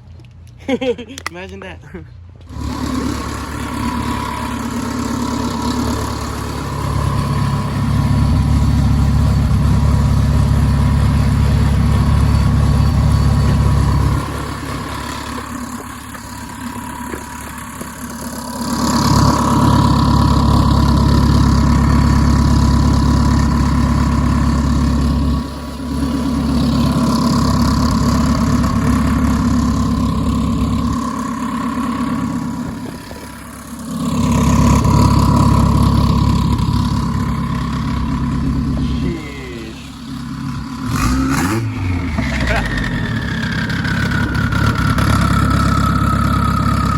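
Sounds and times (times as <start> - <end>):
turbocharged car engine running: 2.4 - 46.9.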